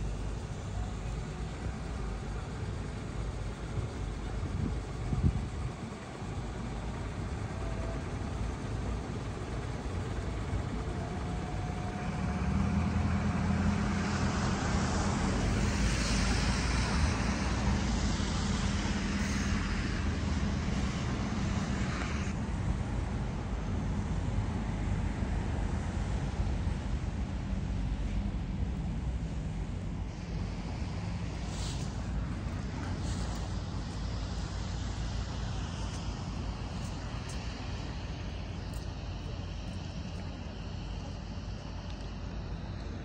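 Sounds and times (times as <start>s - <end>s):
bus engine rumbling: 0.0s - 43.0s
street traffic noise: 0.0s - 43.0s
hiss: 0.1s - 22.4s, 30.1s - 42.8s.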